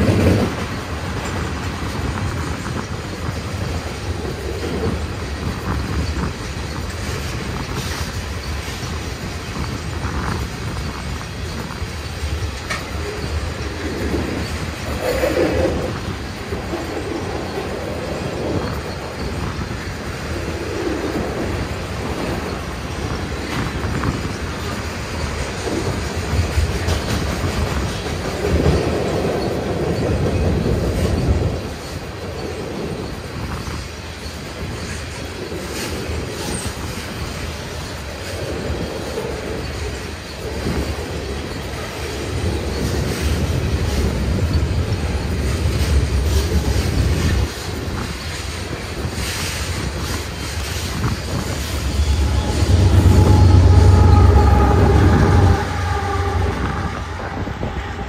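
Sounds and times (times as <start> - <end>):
train wheels rumbling on bridge: 0.0 - 58.0.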